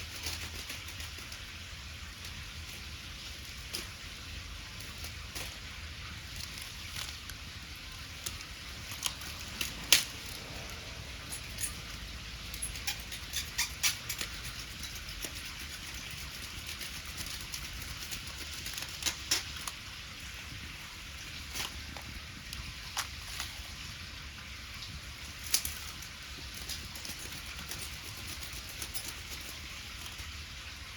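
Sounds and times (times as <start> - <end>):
wood fire crackling and popping: 0.0 - 30.9.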